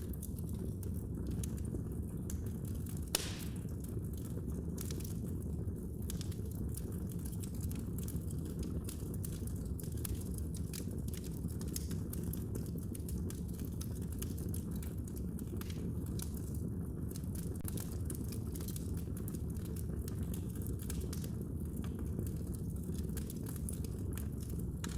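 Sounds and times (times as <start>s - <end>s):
fire crackles and pops: 0.0s - 24.9s
fire flames rumbling: 0.0s - 24.9s.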